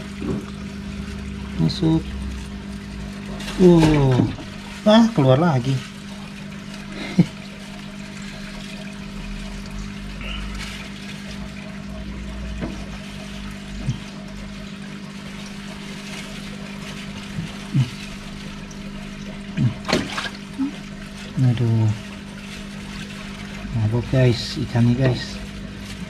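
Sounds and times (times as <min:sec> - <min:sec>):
aquarium water bubbling: 0:00.0 - 0:26.0
tank pump hum: 0:00.0 - 0:26.0.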